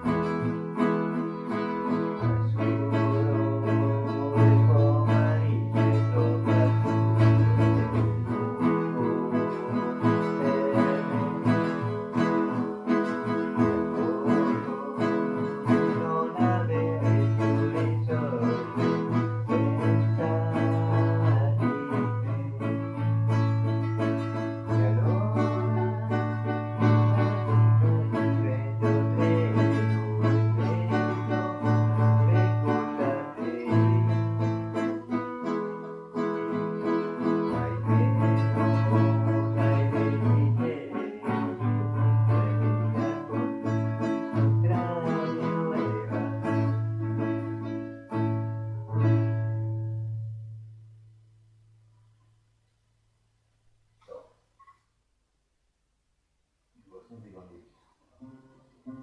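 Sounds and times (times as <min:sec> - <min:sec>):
plucked and strummed guitar: 0:00.0 - 0:51.3, 0:58.1 - 0:59.0.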